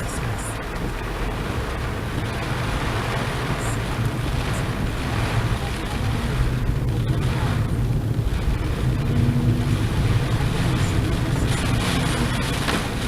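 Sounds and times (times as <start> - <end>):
deep rumble: 0.0 - 13.0
heavy rain pouring: 0.0 - 13.0.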